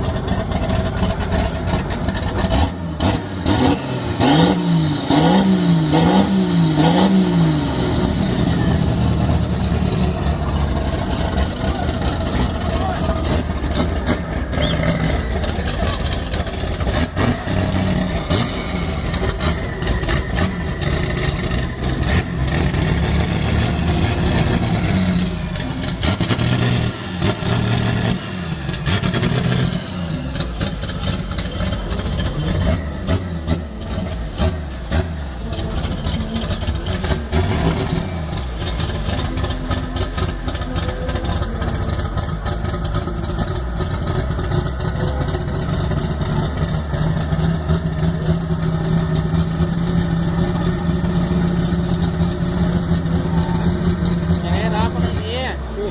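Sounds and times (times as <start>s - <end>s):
vehicle engines revving: 0.0s - 55.9s.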